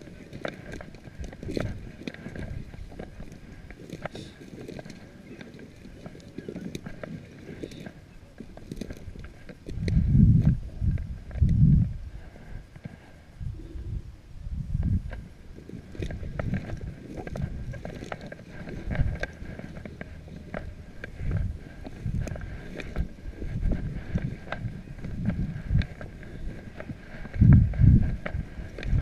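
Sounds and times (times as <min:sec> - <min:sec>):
footsteps through dry grass: 0:00.0 - 0:11.4, 0:14.8 - 0:29.0
wind buffeting microphone: 0:00.0 - 0:29.0.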